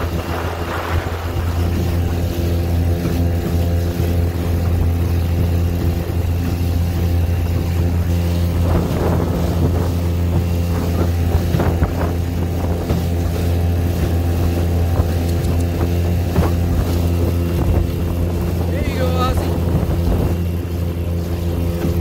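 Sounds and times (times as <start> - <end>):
outboard motor running: 0.0 - 22.0
water slapping boat hull: 0.0 - 22.0.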